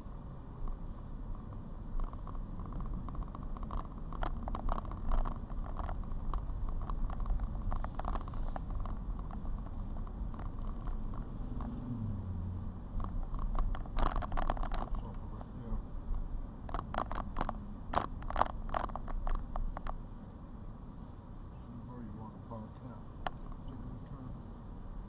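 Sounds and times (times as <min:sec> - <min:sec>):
road and engine rumble: 0:00.0 - 0:25.0.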